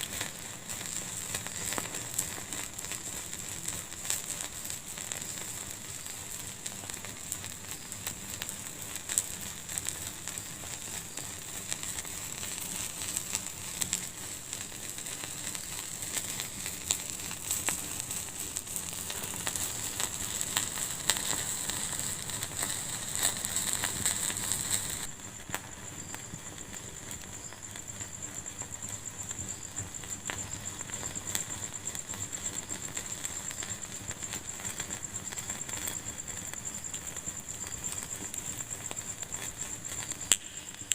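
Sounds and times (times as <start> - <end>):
fire crackling in a fireplace: 0.0 - 40.9.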